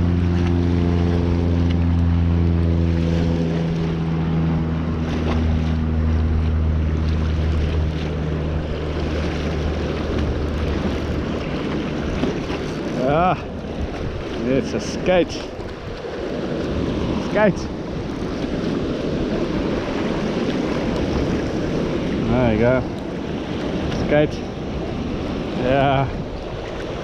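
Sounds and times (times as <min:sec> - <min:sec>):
low motor drone: 0:00.0 - 0:27.0
wind buffeting microphone: 0:00.0 - 0:27.0.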